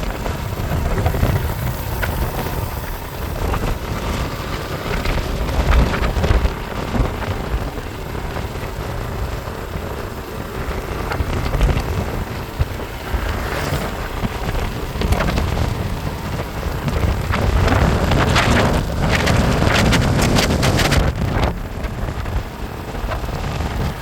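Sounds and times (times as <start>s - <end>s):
vehicle engine and road rumble: 0.0s - 24.0s
wind buffeting microphone: 0.0s - 24.0s.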